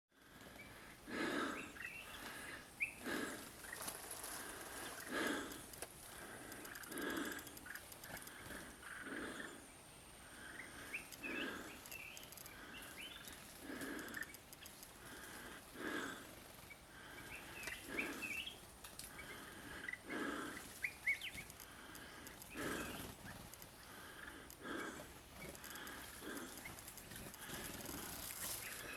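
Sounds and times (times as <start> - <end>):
heavy breathing: 0.2 - 28.9
faint bird chirps: 0.3 - 4.0, 6.6 - 28.9.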